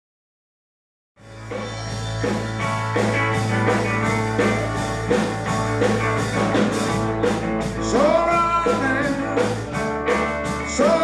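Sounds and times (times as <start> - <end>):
drum kit beat: 1.2 - 11.0
electric guitar: 1.2 - 11.0
rock band playing: 1.2 - 11.0.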